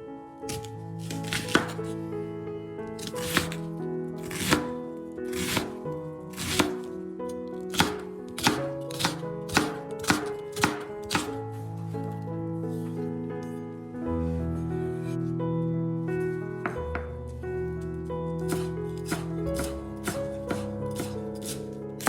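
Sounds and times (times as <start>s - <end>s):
music with held notes: 0.0s - 22.0s.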